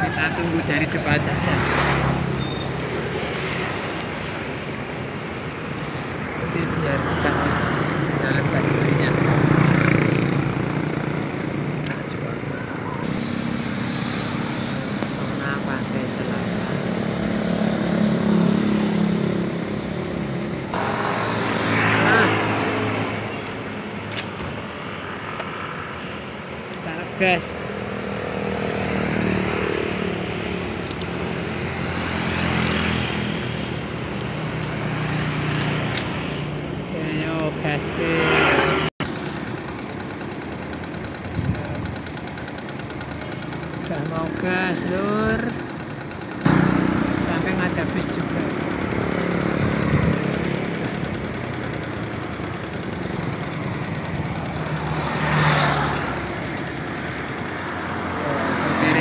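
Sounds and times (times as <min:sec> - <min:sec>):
bus engine moving off: 0:00.0 - 0:59.0
road noise: 0:00.0 - 0:59.0.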